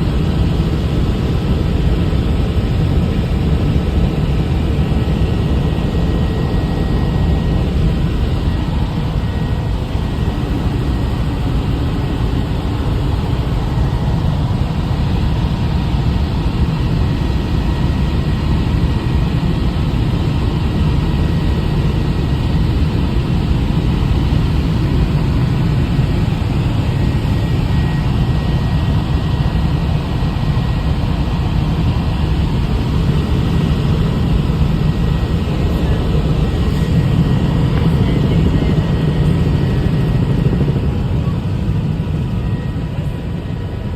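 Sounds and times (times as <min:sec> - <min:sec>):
helicopter engine and rotor drone: 0:00.0 - 0:43.9.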